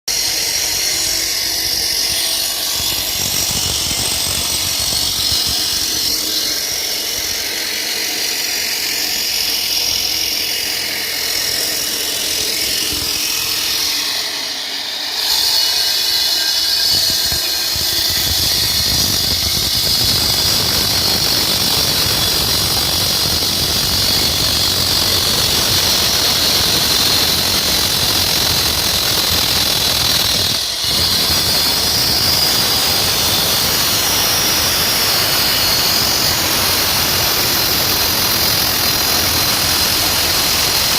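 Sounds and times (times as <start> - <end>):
concrete cutting machine grinding: 0.1 - 40.9.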